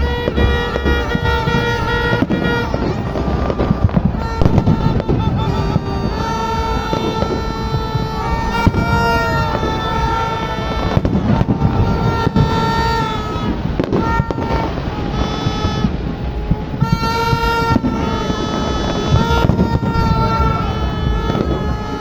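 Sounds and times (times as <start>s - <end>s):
crowd and street din: 0.0s - 22.0s
firework cracks: 0.0s - 22.0s
horns tooting: 0.0s - 22.0s.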